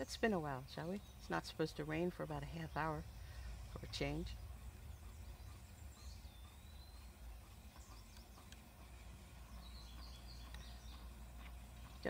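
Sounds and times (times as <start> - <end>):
low steady rumble: 0.0 - 12.0
small birds chirping: 0.0 - 12.0.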